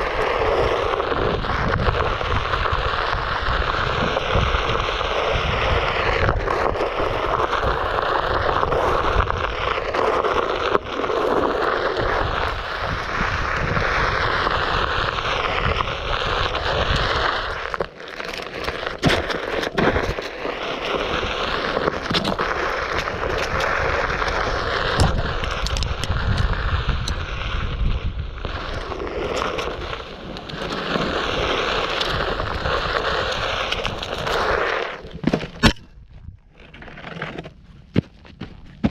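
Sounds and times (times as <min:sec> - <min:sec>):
tyre rolling over dirt: 0:00.0 - 0:38.9.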